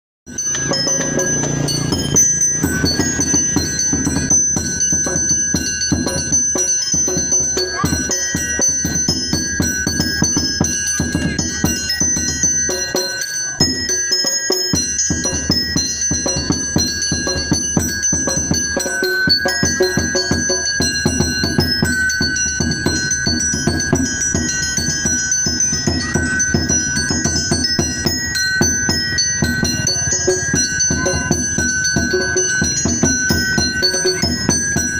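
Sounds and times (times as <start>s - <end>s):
mallet percussion melody: 0.3s - 34.9s
fast drum beat: 0.4s - 34.9s.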